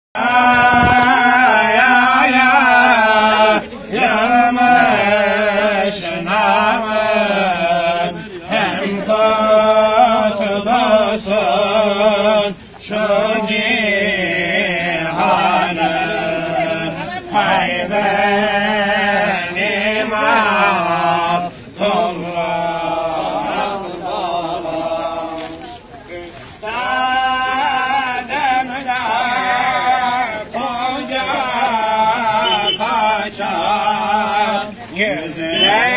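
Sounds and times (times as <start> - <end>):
man chanting a hymn: 0.2 - 35.9.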